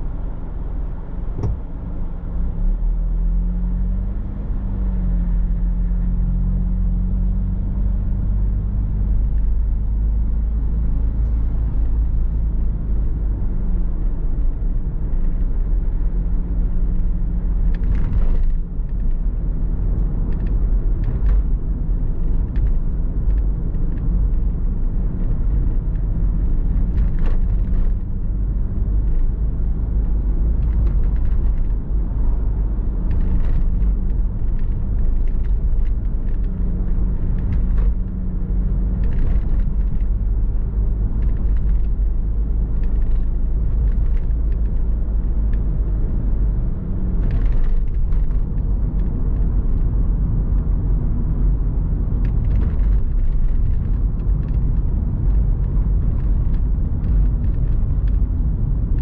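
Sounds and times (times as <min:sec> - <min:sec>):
engine and tyre rumble: 0:00.0 - 0:59.0
faint engine hum: 0:00.0 - 0:59.0.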